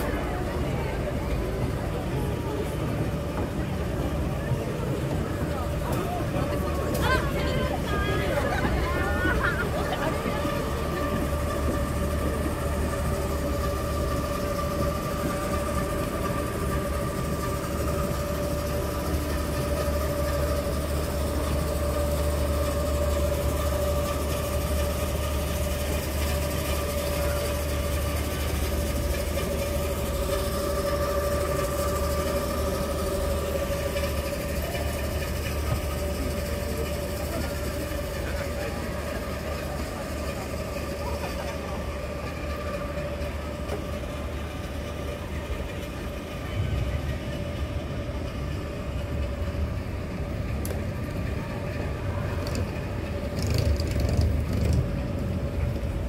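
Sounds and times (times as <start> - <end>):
machine hum with whine: 0.0 - 56.0.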